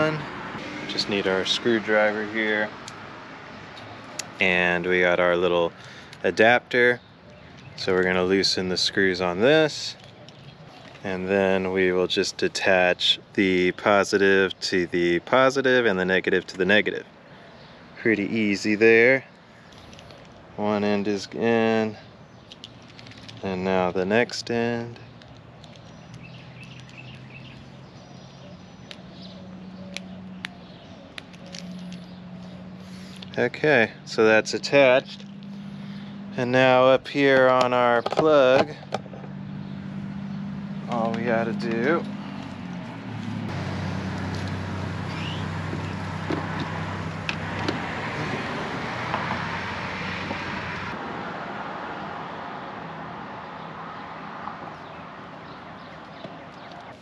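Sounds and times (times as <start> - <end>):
birds chirping: 0.0 - 51.0, 52.4 - 57.0
vehicle engine humming: 0.0 - 57.0.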